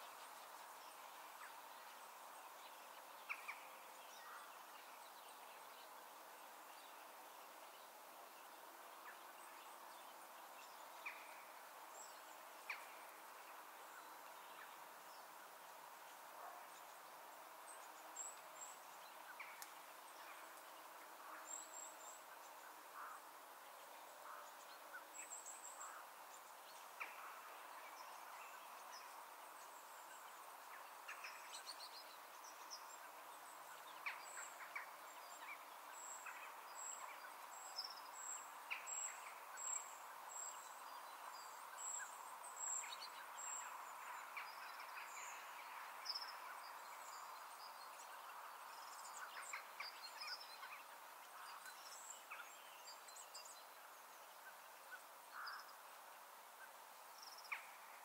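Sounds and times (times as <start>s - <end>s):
soft steady hiss: 0.0s - 58.0s.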